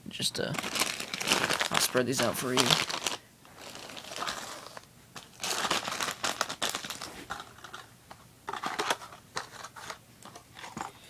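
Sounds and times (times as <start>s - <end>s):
plastic packages crinkling: 0.4s - 7.9s, 8.5s - 10.0s.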